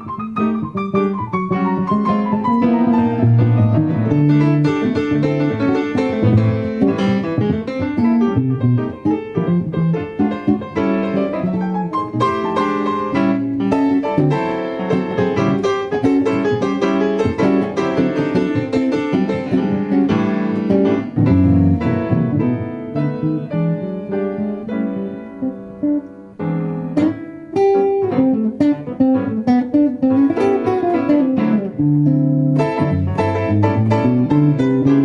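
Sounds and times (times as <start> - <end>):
piano and guitar blues: 0.0 - 35.0.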